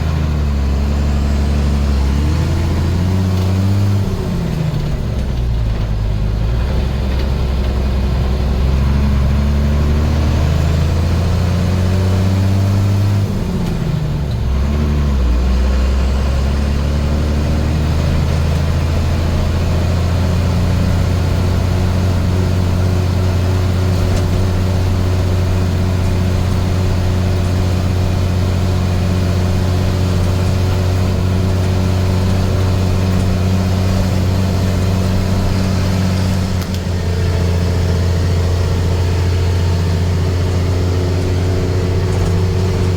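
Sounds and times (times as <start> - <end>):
truck diesel engine: 0.0 - 42.9.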